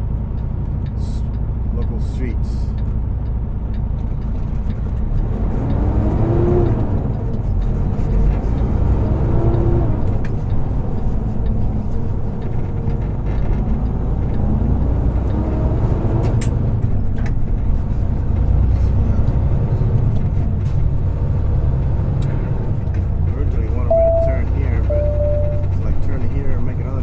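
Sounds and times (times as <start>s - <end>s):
diesel truck engine rumble: 0.0s - 27.0s
road noise: 0.0s - 27.0s.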